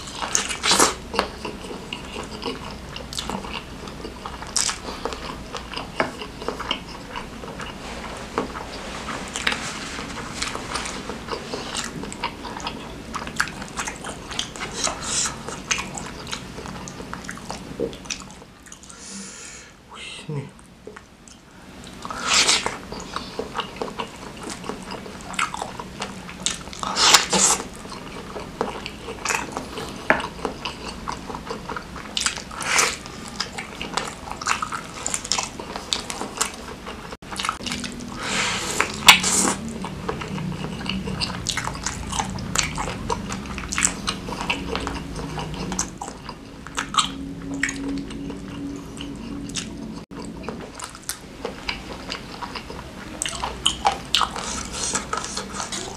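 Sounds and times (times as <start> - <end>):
wet chewing: 0.0 - 19.0, 20.8 - 55.9.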